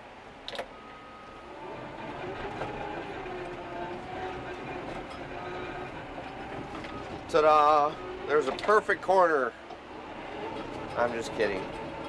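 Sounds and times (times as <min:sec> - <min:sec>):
bulldozer diesel engine and tracks: 0:00.0 - 0:12.0.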